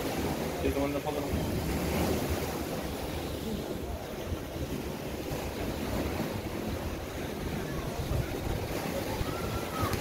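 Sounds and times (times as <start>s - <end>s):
ocean waves washing onto beach: 0.0s - 10.0s
wind buffeting microphone: 0.0s - 10.0s.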